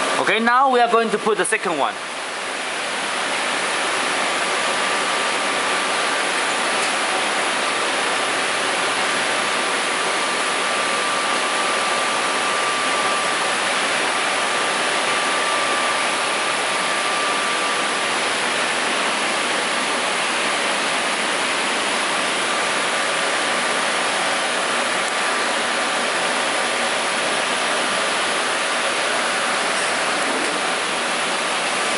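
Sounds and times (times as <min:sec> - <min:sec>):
thin high whine: 0:00.0 - 0:31.9.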